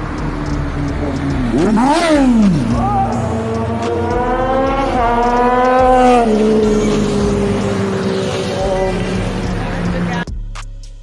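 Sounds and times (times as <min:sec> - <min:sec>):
motorcycle engine accelerating: 0:00.0 - 0:10.3.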